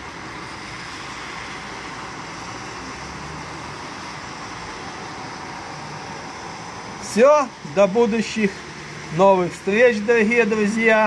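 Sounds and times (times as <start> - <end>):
rumble of passing cars: 0.0 - 11.0
tyres hissing on wet asphalt: 0.0 - 11.0.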